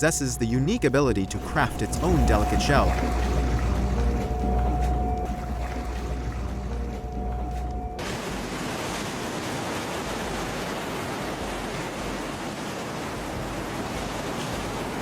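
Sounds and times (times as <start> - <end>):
rushing water: 0.1 - 15.0.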